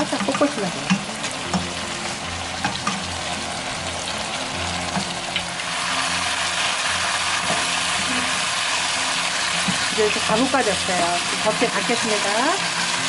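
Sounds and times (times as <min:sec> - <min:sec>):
meat and onions sizzling in a wok: 0:00.0 - 0:13.0.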